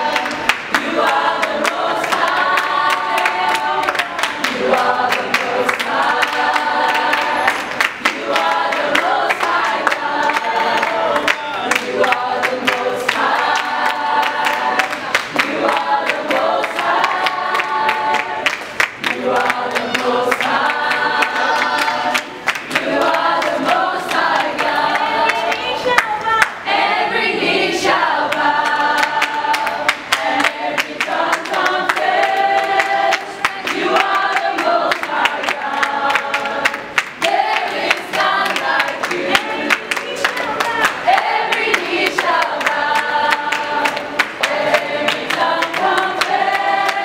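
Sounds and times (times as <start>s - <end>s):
hand-claps in time: 0.0s - 26.6s, 28.3s - 47.0s
gospel choir singing a cappella: 0.0s - 47.0s.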